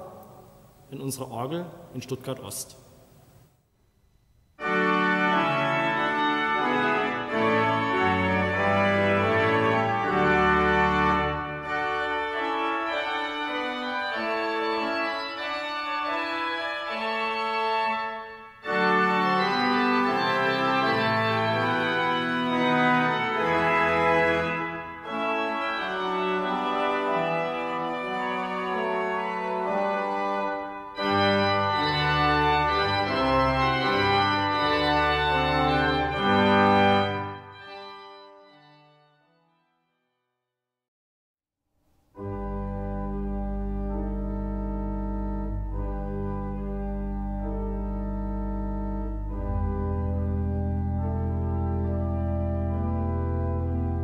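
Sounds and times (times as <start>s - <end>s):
pipe organ chords: 4.0s - 39.6s, 42.1s - 54.0s.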